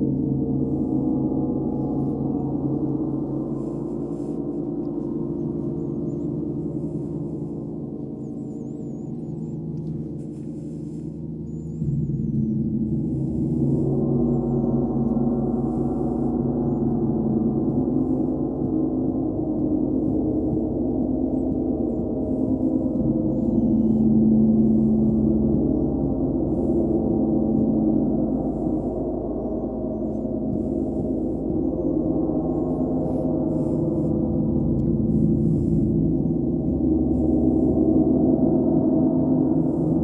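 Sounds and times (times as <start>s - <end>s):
large gong shimmering: 0.0s - 40.0s.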